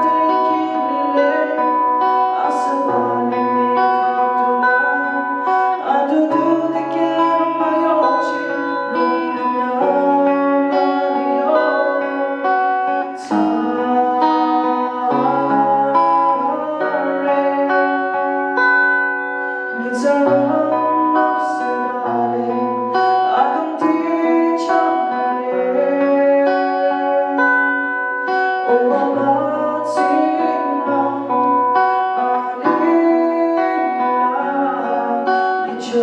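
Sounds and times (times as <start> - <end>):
acoustic guitar strumming: 0.0 - 36.0
man singing: 0.0 - 36.0.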